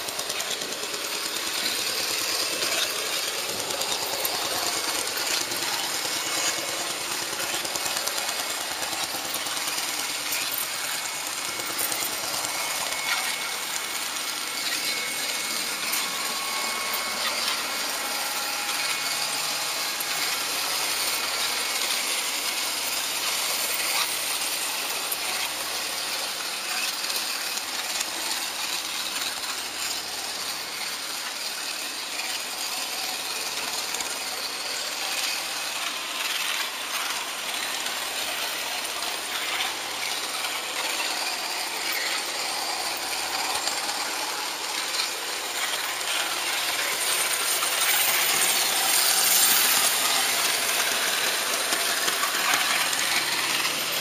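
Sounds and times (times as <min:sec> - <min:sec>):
model train motor running: 0:00.0 - 0:54.0
wheels clicking on rails: 0:00.0 - 0:54.0.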